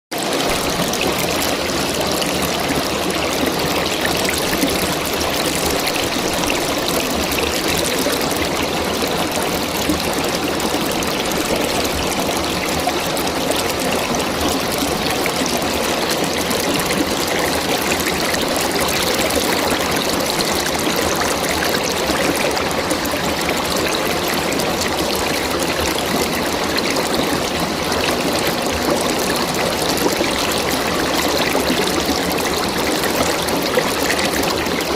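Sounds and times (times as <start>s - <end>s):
river water flowing and splashing: 0.1s - 34.9s.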